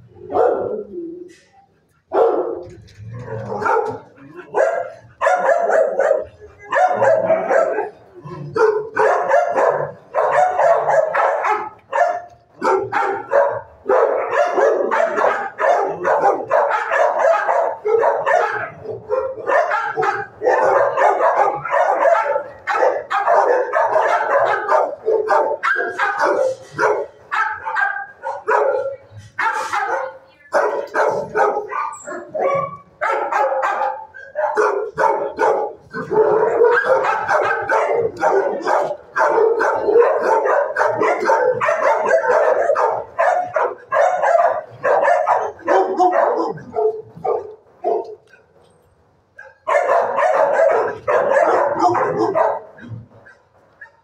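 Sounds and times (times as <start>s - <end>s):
many dogs barking: 0.0s - 48.5s, 49.4s - 54.0s.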